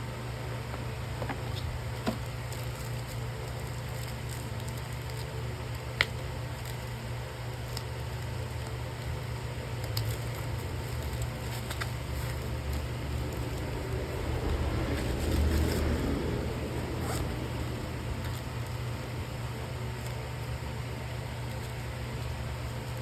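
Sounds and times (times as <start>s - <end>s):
steady low hum: 0.0s - 23.0s
rustling handling noise: 0.7s - 23.0s.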